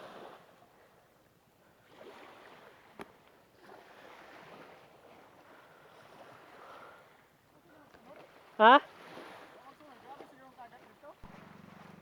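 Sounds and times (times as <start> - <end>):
small waves lapping at shore: 0.0 - 12.0.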